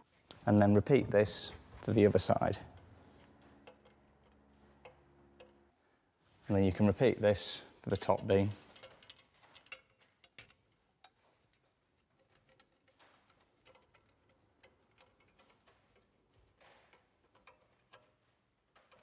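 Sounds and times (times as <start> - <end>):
faint metal clicks and taps: 1.5 - 5.7, 7.8 - 19.0.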